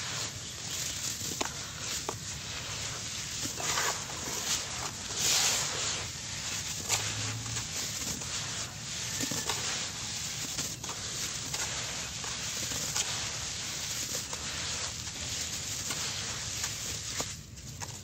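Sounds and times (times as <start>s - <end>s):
falling clumps pattering: 0.0s - 18.0s
gritty crunching of damp cement mix: 0.0s - 18.0s.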